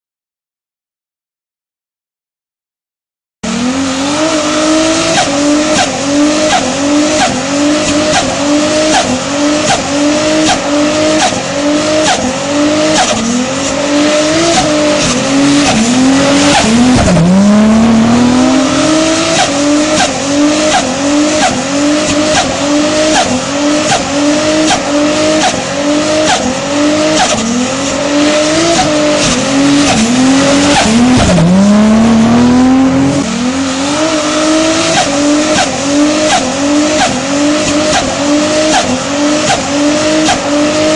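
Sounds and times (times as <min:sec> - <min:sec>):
engine revving hard: 0:03.4 - 0:40.9.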